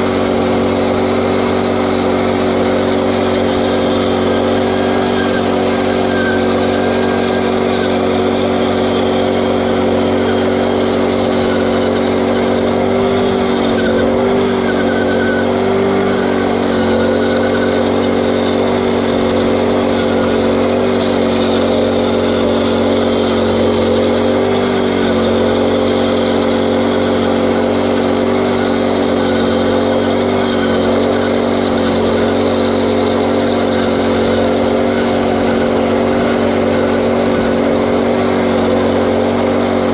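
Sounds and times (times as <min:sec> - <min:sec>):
band blade cutting log: 0:00.0 - 0:39.9
small engine running under load: 0:00.0 - 0:39.9.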